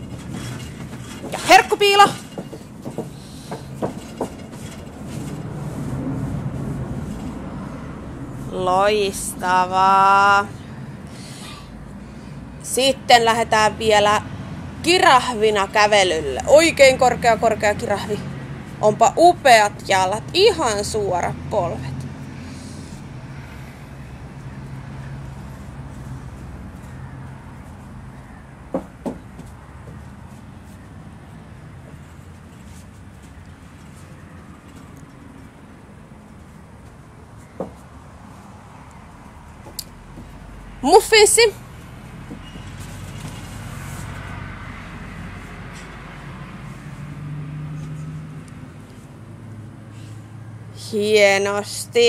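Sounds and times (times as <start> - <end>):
bare feet on wooden decking: 0.0 - 14.0, 14.9 - 51.5
outdoor background hiss: 0.0 - 52.0.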